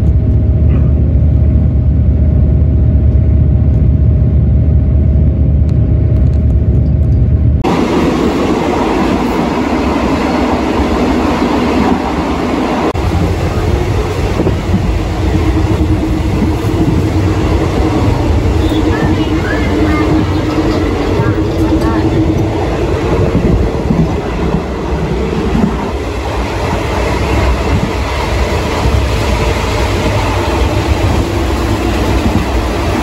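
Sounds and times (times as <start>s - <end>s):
rushing wheel and wind noise: 0.0s - 33.0s
train wheels rumbling: 0.0s - 33.0s.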